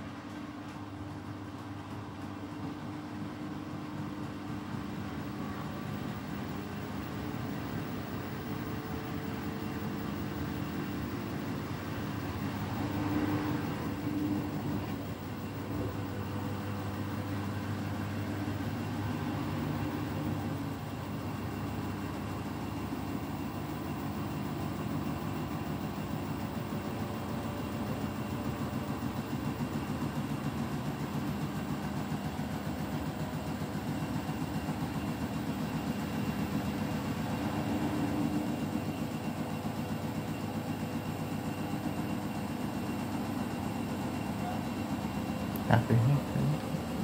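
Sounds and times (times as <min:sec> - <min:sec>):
washing machine motor running: 0:00.0 - 0:47.0.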